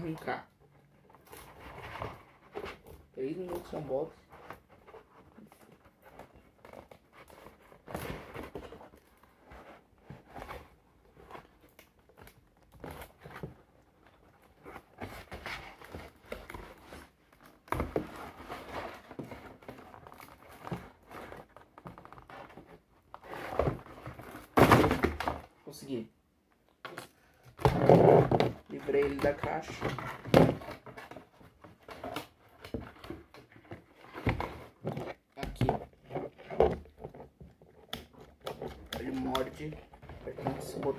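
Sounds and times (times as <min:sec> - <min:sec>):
cardboard packaging rustling: 0:00.0 - 0:25.6, 0:26.7 - 0:40.9.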